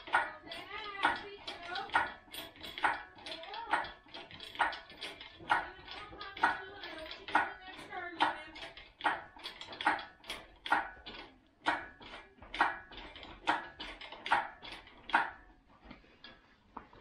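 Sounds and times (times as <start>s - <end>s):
hydraulic hoist lever clanking: 0.0s - 15.6s.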